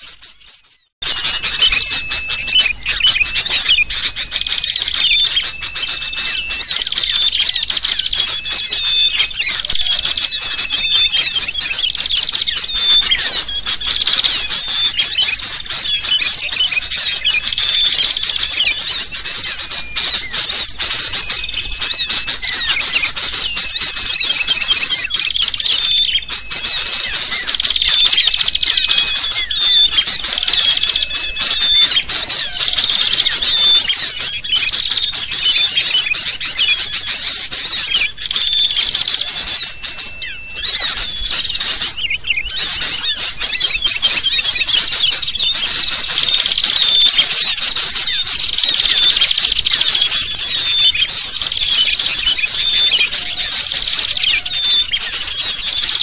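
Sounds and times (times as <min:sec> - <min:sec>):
bulbul calls: 0:00.0 - 0:56.0
small birds chattering: 0:00.0 - 0:56.0.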